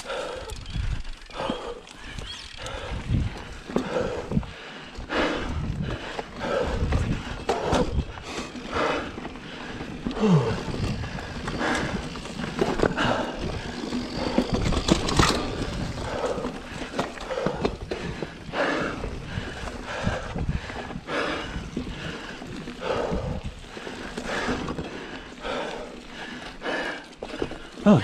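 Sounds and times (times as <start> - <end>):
bike rattling: 0.0 - 28.0
bike tyre noise on dirt: 0.0 - 28.0.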